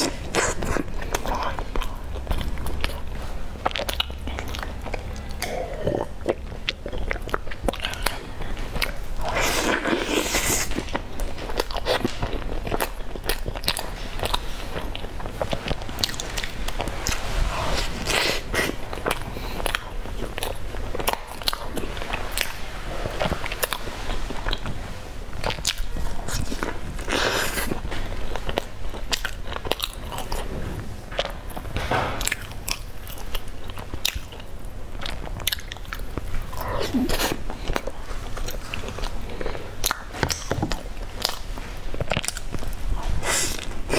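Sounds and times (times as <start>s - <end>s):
chewing a soft sandwich: 0.0s - 43.9s.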